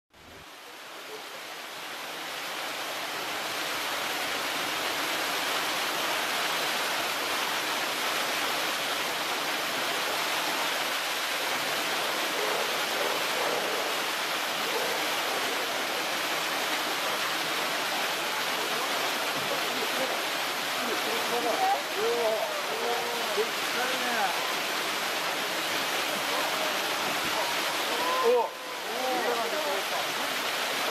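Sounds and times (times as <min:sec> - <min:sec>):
flowing water rushing: 0:00.2 - 0:30.9.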